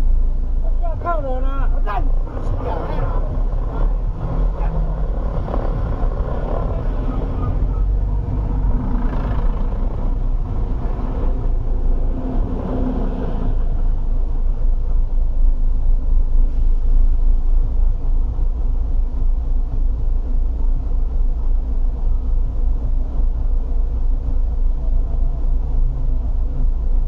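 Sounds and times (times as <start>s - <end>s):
vehicle engines idling: 0.0s - 27.0s.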